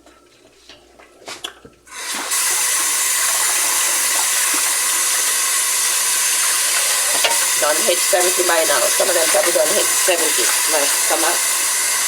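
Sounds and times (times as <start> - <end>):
hot oil sizzling: 1.9 - 12.0.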